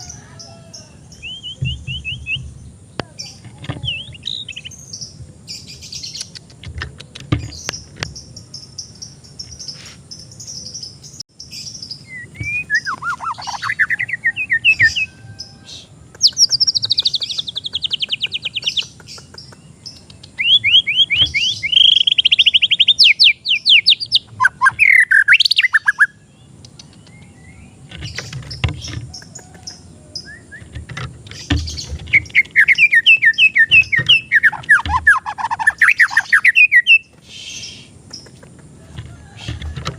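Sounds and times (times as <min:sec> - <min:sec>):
bird singing trills and whistles: 0:00.0 - 0:06.5, 0:07.4 - 0:38.4.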